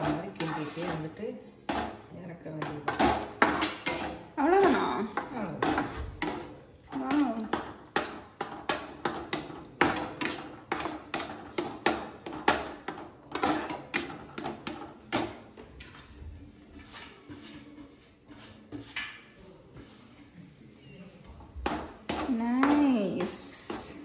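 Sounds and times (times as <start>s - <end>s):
ladle scraping metal pot: 0.0s - 2.0s, 2.6s - 19.9s.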